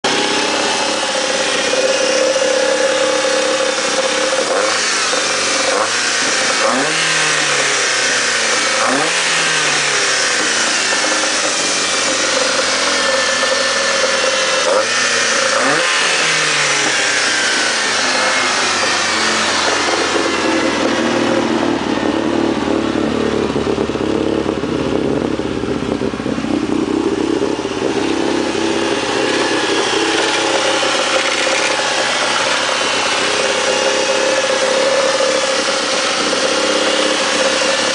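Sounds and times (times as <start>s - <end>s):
car engine revving and idling: 0.0s - 37.9s.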